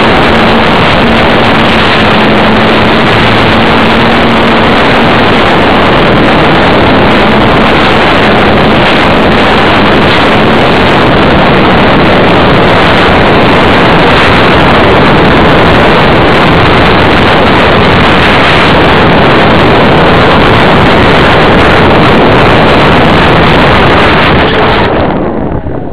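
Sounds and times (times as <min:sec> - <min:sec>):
electric motor and propeller: 0:00.0 - 0:25.8
rush of airflow: 0:00.0 - 0:25.9.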